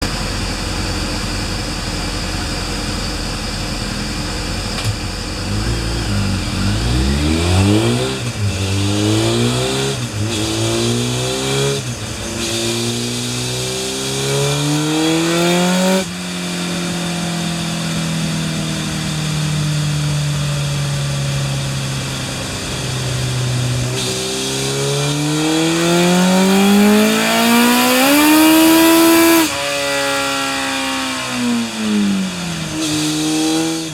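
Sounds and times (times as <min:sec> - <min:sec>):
motorcycle engine revving hard: 0:01.7 - 0:33.9.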